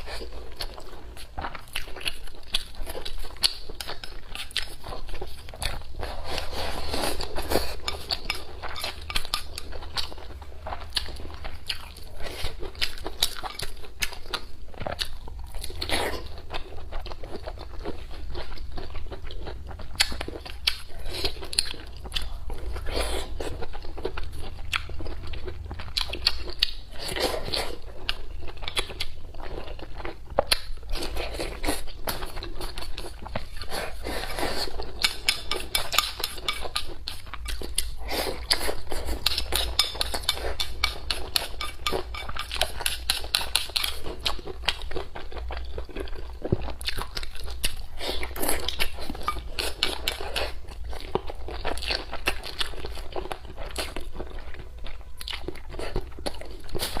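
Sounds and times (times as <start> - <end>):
person chewing and crunching food: 0.0 - 57.0.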